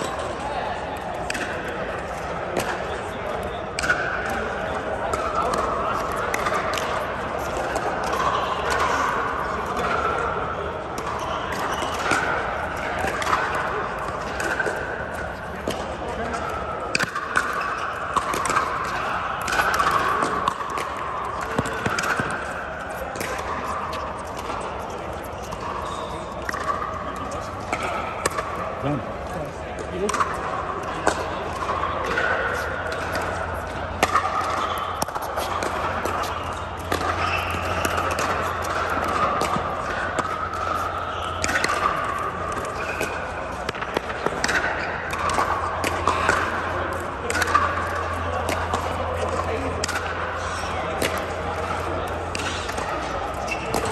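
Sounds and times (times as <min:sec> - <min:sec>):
steady background noise: 0:00.0 - 0:53.9
balls bouncing on hard court: 0:00.9 - 0:53.9.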